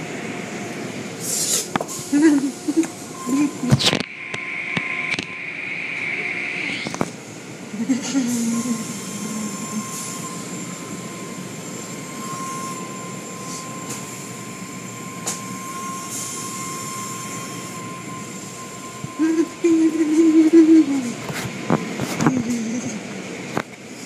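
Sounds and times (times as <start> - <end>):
constant high whine: 0.0 - 24.0.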